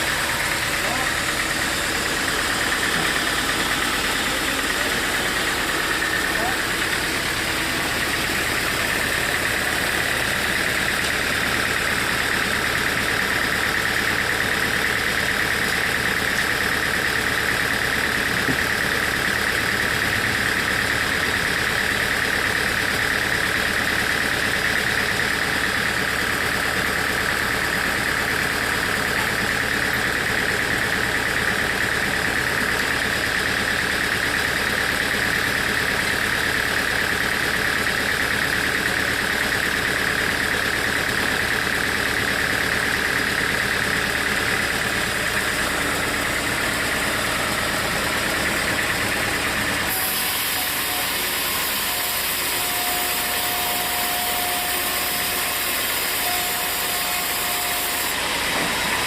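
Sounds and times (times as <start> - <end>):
sawmill saw whining through log: 0.0 - 59.0.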